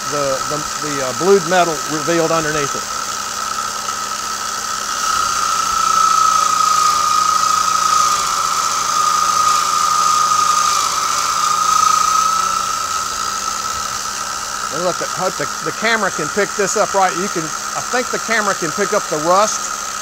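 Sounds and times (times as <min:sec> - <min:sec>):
metal against wire wheel: 0:00.0 - 0:19.8
wire wheel whining: 0:00.0 - 0:20.0.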